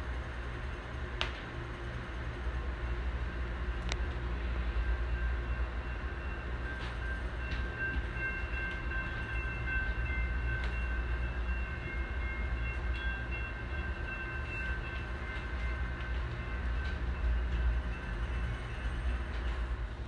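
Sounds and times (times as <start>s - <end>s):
train rumbling from inside coach: 0.0s - 20.0s.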